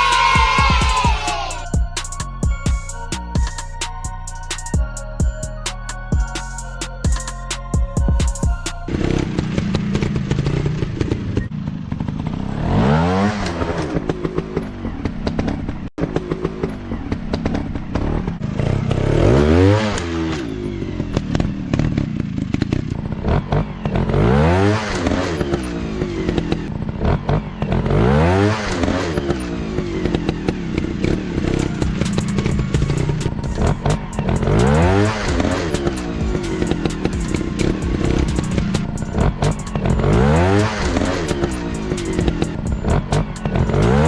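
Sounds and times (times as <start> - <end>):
dirt bike engine revving: 0.0 - 2.2, 8.9 - 44.0.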